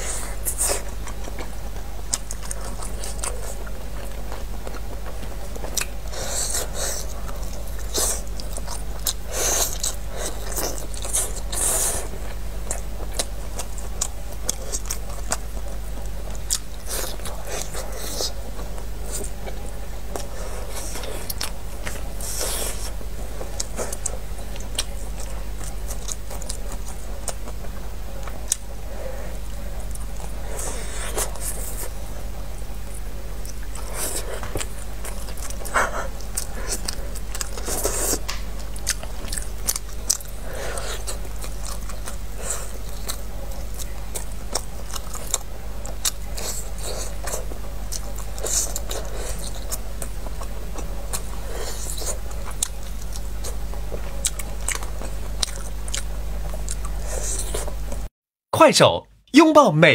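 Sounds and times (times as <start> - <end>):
chewing meat off bone: 0.0 - 58.1
steady low hum: 0.0 - 59.9.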